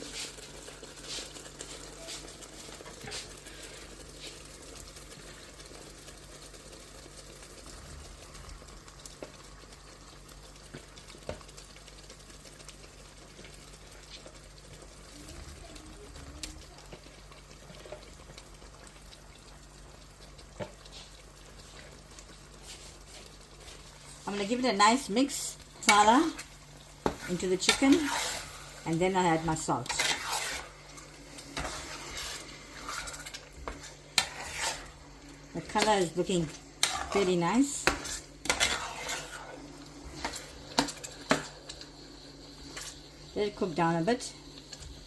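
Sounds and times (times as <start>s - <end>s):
curry bubbling in a pot: 0.0s - 45.0s.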